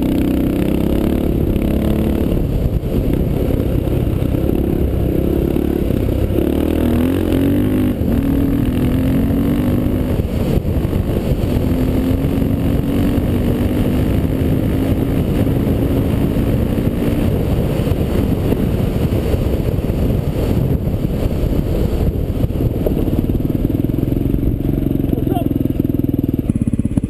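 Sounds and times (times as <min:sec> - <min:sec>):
motorcycle engine running: 0:00.0 - 0:27.0
road rumble on gravel: 0:00.0 - 0:27.0
wind noise: 0:00.0 - 0:27.0.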